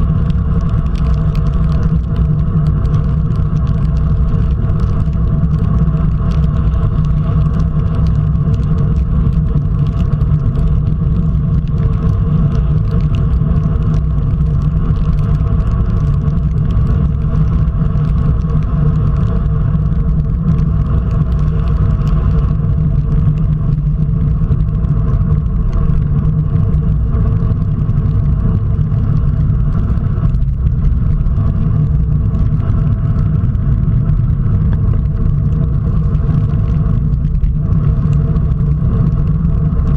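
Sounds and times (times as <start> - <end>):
tyres on wet asphalt: 0.0 - 39.9
wind rumble on microphone: 0.0 - 39.9.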